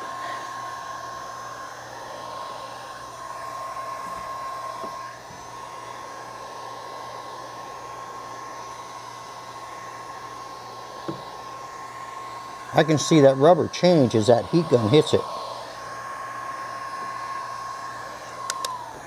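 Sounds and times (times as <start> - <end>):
heat gun blowing air with whine: 0.0 - 19.0.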